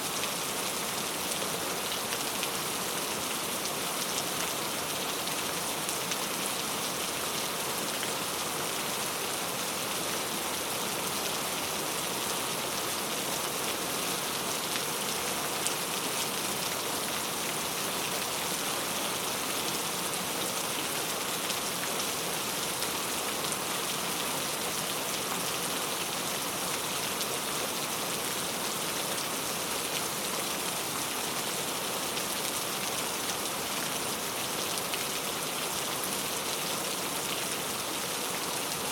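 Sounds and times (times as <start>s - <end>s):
heavy rain on a tent: 0.0s - 38.9s.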